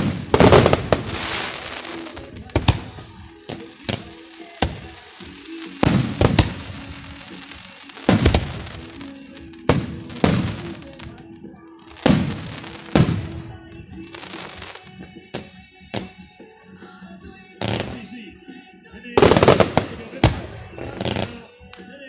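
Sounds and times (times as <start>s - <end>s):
firework crackling: 0.0s - 16.2s, 17.6s - 18.1s, 19.2s - 21.8s
firework shells booming: 0.0s - 16.2s, 17.6s - 18.1s, 19.2s - 21.5s
music playing: 0.0s - 22.0s.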